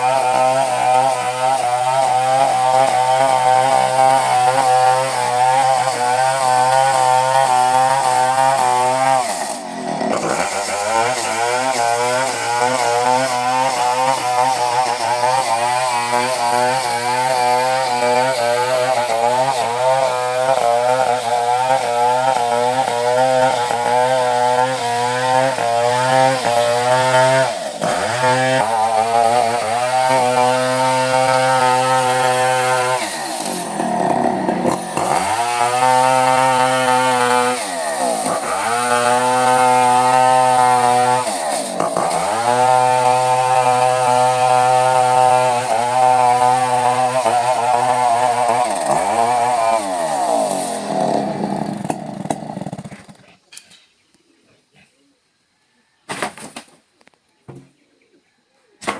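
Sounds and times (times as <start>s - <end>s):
chainsaw cutting wood: 0.0s - 53.7s.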